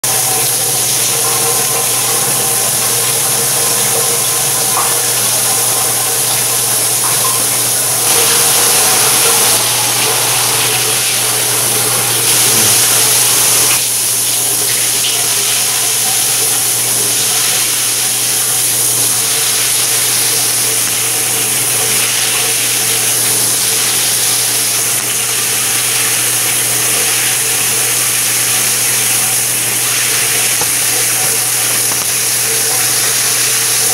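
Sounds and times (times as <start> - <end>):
shower head spraying water: 0.1 - 33.9.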